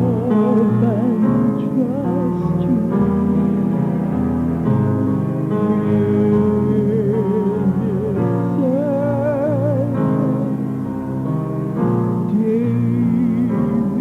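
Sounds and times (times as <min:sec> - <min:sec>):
singer holding long vibrato notes: 0:00.0 - 0:14.0
sustained keyboard chords: 0:00.0 - 0:14.0.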